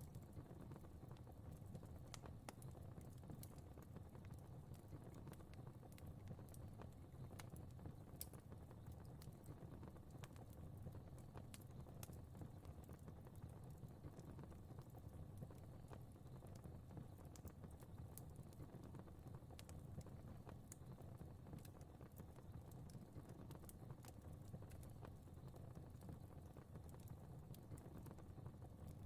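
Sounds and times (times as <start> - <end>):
fire crackles and pops: 0.0 - 29.0
low rumble of flames: 0.0 - 29.0.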